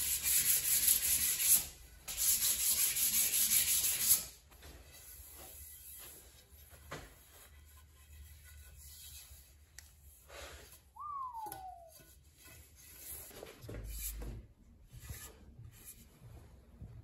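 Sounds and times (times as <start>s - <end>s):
faint rubbing and handling: 3.3s - 17.0s.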